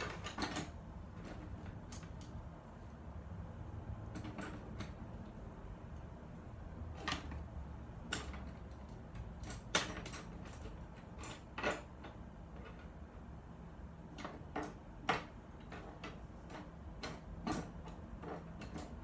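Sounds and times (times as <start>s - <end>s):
sharp clicks and light knocks: 0.0s - 3.0s, 3.9s - 13.1s, 14.0s - 19.0s
low steady hum: 0.0s - 19.0s.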